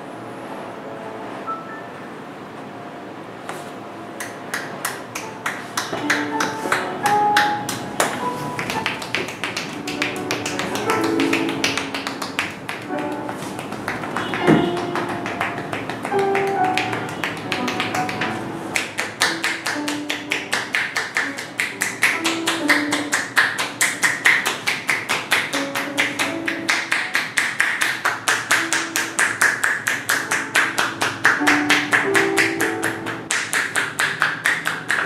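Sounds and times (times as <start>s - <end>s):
soft background music: 0.0s - 35.0s
hands slapping skin: 4.2s - 32.6s, 33.3s - 35.0s.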